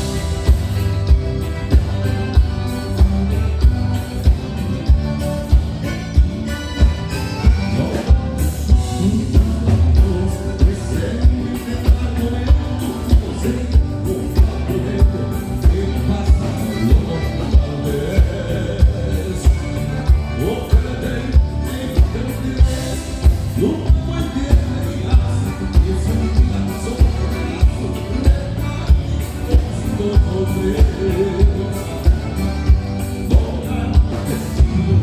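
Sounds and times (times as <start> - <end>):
live band music: 0.0 - 35.0.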